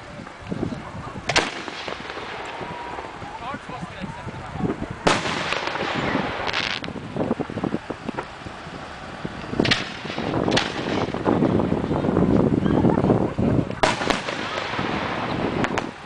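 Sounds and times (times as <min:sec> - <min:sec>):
firework bangs: 0:00.8 - 0:12.5, 0:13.4 - 0:16.0.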